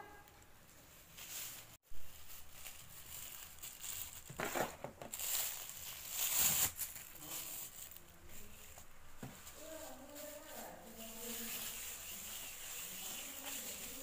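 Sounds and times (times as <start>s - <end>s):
plastic bags rustling and crinkling: 0.0s - 14.0s.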